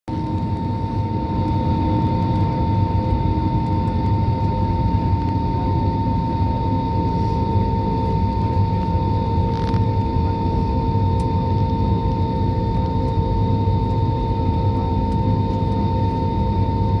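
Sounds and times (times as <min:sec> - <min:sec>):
jet engines rumbling: 0:00.1 - 0:17.0.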